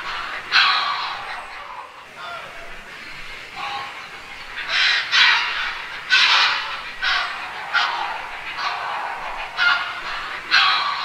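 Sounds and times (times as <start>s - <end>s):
heron squawking: 0.0s - 11.0s.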